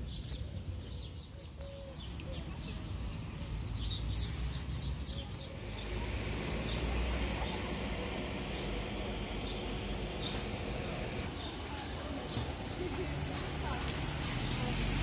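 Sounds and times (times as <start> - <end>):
small birds chirping: 0.0 - 13.1
low traffic rumble: 0.0 - 15.0.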